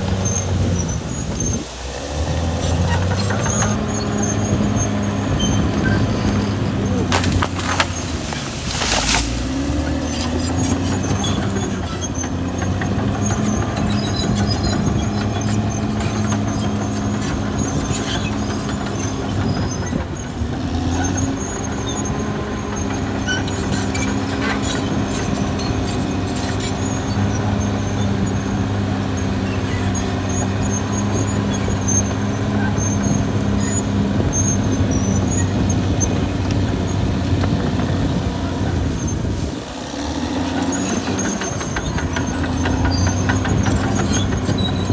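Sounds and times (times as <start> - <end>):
high metallic squeaks: 0.0 - 37.2, 38.2 - 44.9
bulldozer diesel engine running: 0.0 - 44.9.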